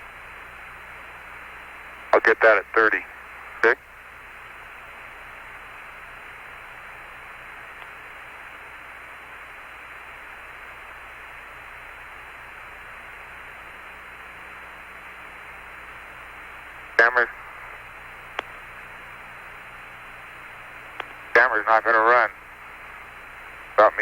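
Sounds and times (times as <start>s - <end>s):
radio hiss: 0.0s - 24.0s.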